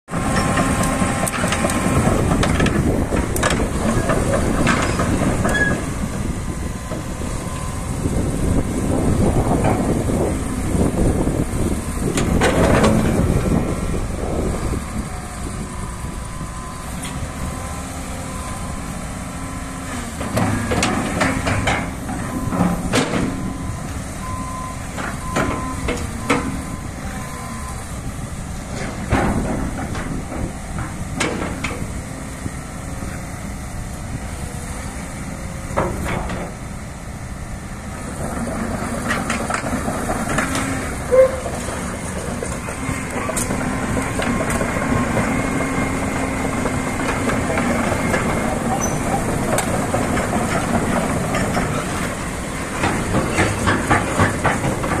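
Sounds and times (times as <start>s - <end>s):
excavator diesel engine and hydraulics: 0.1s - 55.0s.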